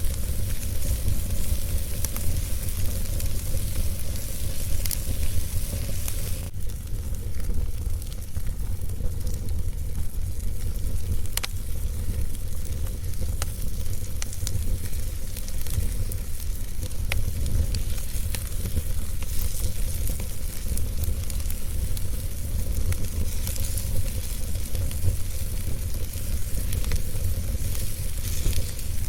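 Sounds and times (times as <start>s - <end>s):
low steady rumble: 0.0s - 29.0s
sharp pops of fire: 0.0s - 29.0s
wood fire crackling: 0.0s - 29.0s.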